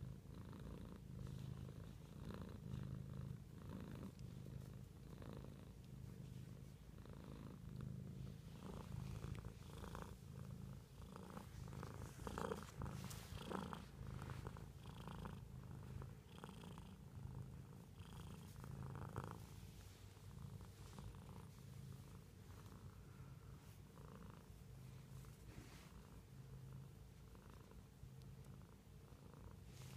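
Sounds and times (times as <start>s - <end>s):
cat purring: 0.0s - 29.9s.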